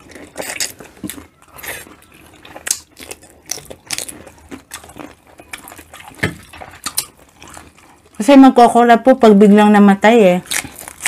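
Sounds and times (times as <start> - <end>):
people chewing shrimp: 0.0 - 8.4, 10.4 - 11.0.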